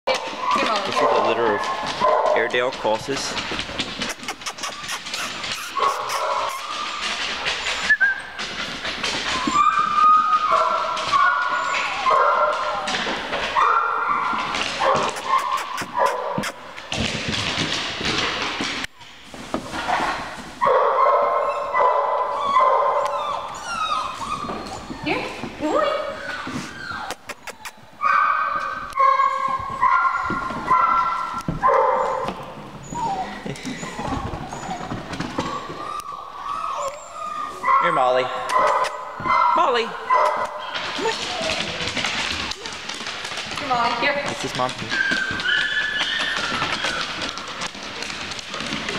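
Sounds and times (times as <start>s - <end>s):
paws knocking on wooden floor: 0.1s - 20.3s, 22.1s - 27.8s, 28.5s - 36.2s, 38.4s - 48.9s
puppies whimpering: 0.2s - 16.7s, 21.4s - 31.4s, 32.6s - 43.1s, 43.7s - 48.9s.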